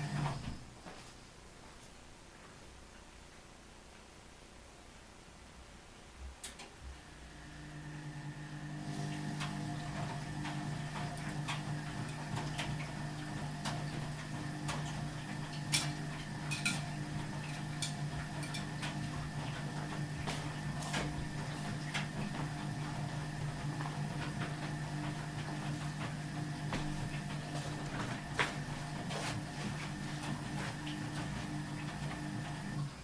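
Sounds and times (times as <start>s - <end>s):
washing machine humming: 0.0s - 0.9s, 6.2s - 33.0s.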